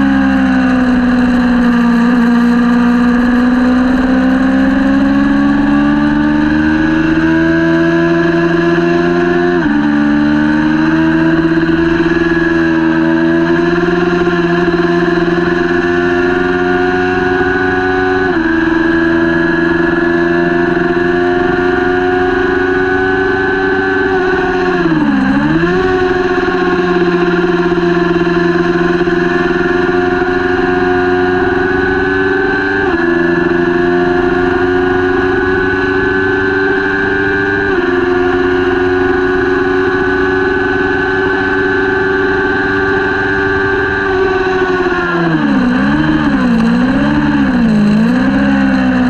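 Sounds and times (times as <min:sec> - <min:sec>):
motorcycle engine revving high: 0:00.0 - 0:49.0.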